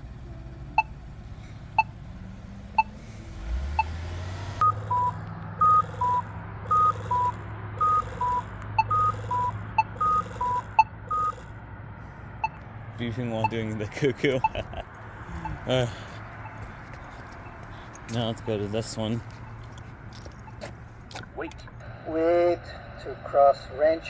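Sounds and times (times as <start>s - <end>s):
pedestrian signal ticking: 0.0s - 21.8s
traffic engines: 0.0s - 24.0s.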